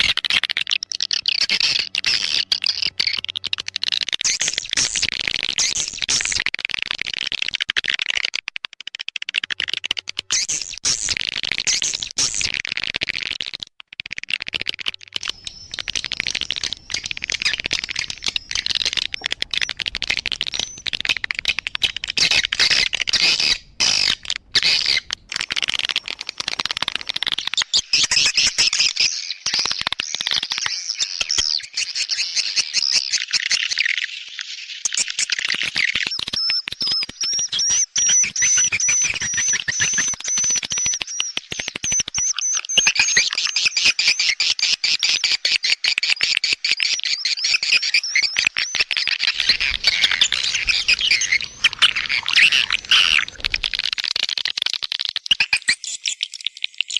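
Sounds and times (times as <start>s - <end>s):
rapid high bird chirps: 0.0s - 6.5s, 15.1s - 56.9s.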